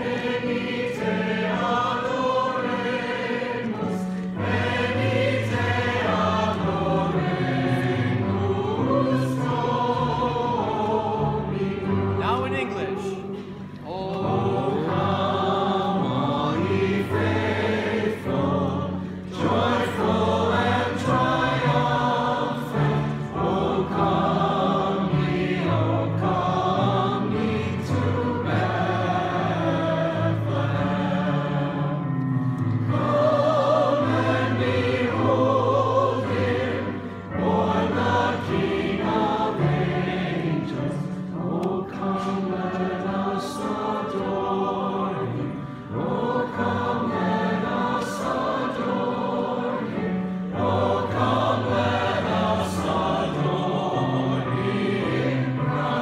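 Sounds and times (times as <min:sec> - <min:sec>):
mixed choir singing carol: 0:00.0 - 0:56.0.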